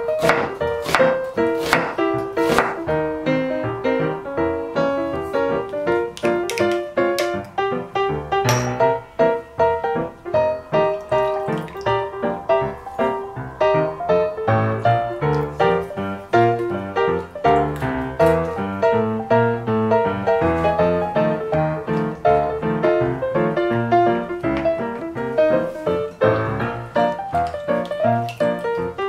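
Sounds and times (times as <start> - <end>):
lively piano music: 0.0 - 29.0.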